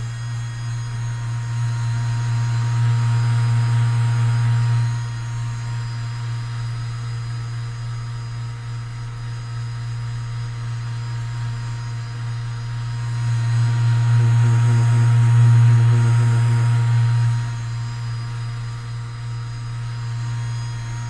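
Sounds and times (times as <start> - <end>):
electric massager humming: 0.0 - 21.0.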